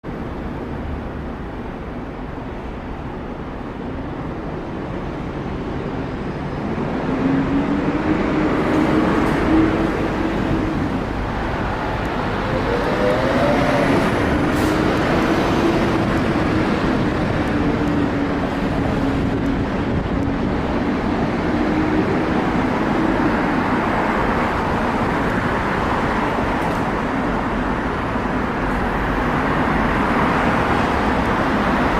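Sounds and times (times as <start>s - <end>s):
road noise of passing vehicles: 0.0s - 31.9s.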